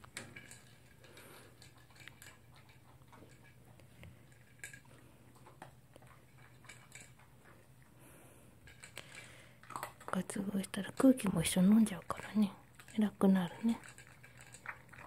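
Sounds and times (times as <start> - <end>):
dog chewing: 0.0 - 15.0
low steady hum: 0.0 - 15.0.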